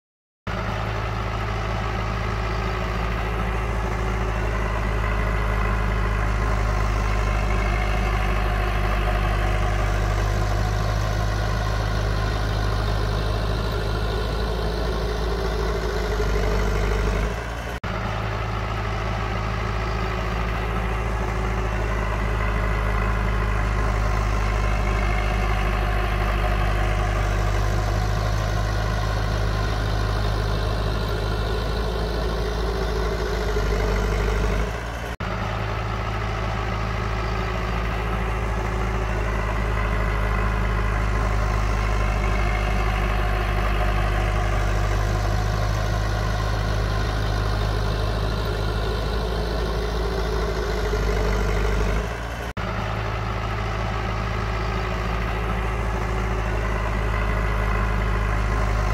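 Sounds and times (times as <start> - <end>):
diesel engine running: 0.5 - 58.9.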